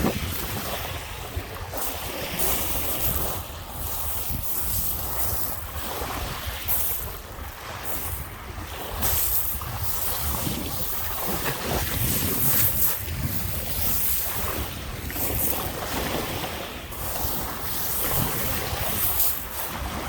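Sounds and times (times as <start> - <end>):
lake waves washing onto shore: 0.0 - 20.0
wind rumbling on microphone: 0.0 - 20.0.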